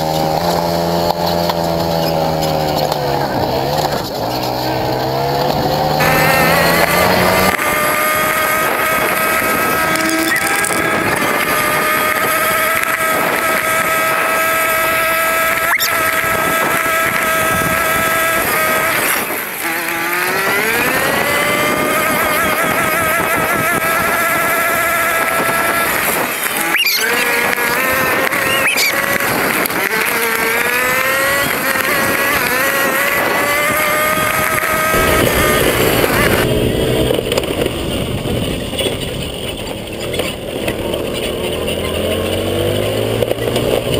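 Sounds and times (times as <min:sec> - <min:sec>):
racing motorcycle engine high revs: 0:00.0 - 0:43.9.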